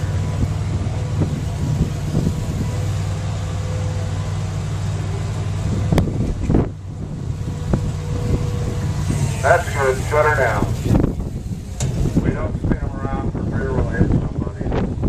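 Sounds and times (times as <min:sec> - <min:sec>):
faint steady whine: 0:00.0 - 0:13.6
loader engine hum: 0:00.0 - 0:15.0.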